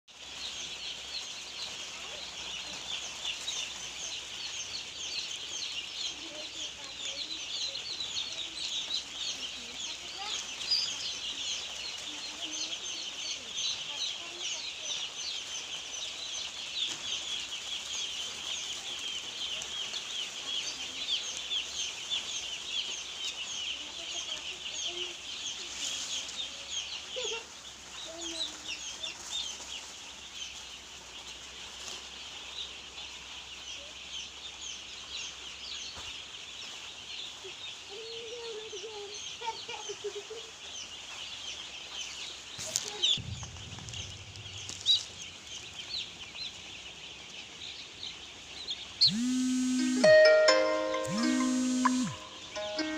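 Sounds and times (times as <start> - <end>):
chicks peeping: 0.1 - 52.9.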